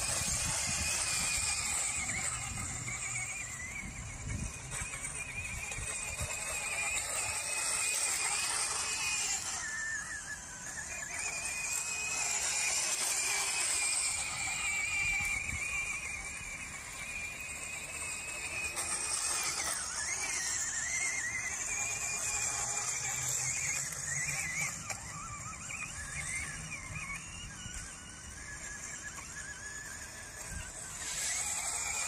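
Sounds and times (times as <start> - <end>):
electric motor and gears whining: 0.0 - 32.0.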